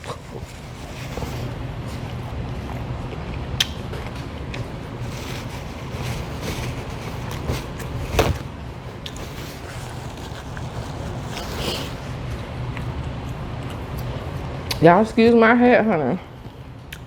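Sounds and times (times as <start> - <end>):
chewing and eating sounds: 0.0 - 15.4, 16.3 - 17.0
steady low hum: 0.0 - 17.0.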